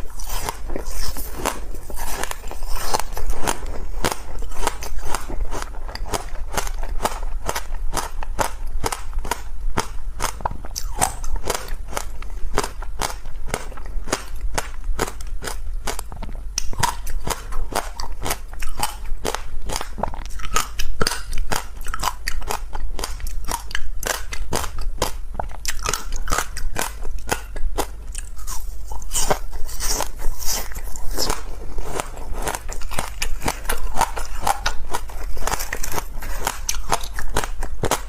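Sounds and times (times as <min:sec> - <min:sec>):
ice being chewed: 0:00.0 - 0:38.0.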